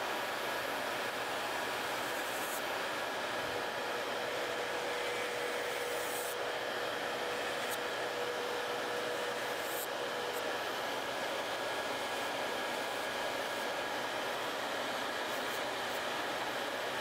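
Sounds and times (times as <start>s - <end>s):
electric nail drill whine: 0.0s - 17.0s.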